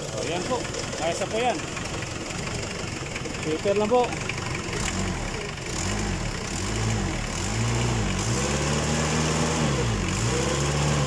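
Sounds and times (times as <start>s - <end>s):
diesel engine revving: 0.0s - 11.0s.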